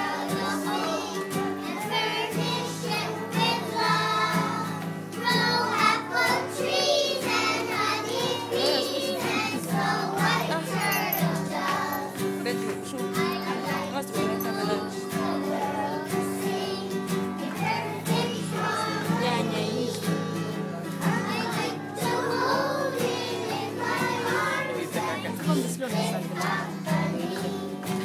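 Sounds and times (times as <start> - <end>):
acoustic guitar: 0.0 - 28.0
children singing: 0.0 - 28.0.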